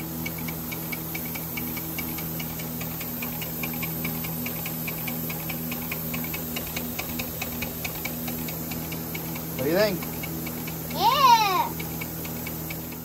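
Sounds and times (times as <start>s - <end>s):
rapid even ticking: 0.2s - 13.0s.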